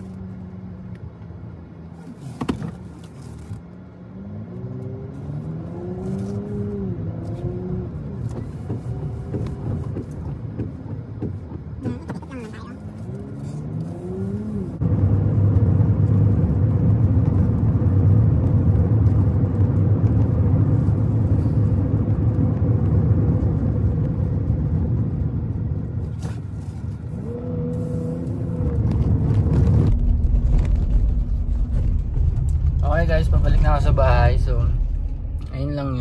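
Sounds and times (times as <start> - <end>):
road and engine rumble: 0.0 - 36.0.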